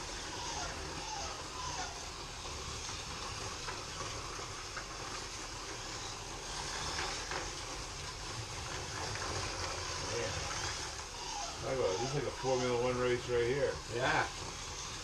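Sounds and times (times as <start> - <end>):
small electric motors whirring: 0.0 - 15.0
wheels rattling on plastic track: 0.0 - 15.0.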